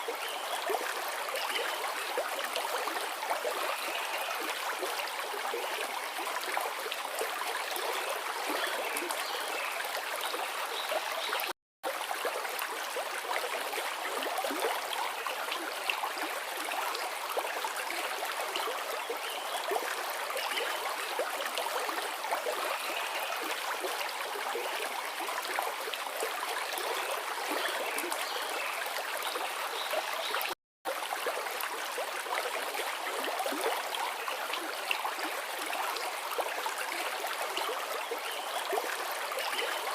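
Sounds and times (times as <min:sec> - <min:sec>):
river water rushing and babbling: 0:00.0 - 0:39.9.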